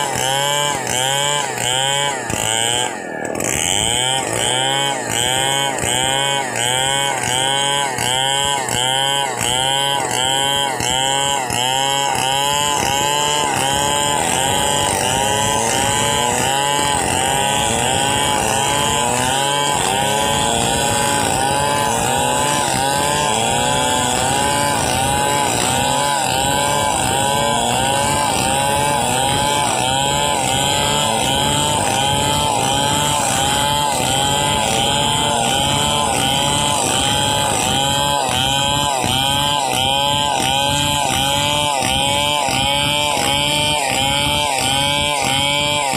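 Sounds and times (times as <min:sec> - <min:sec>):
chainsaws cutting wood: 0:00.0 - 0:45.9.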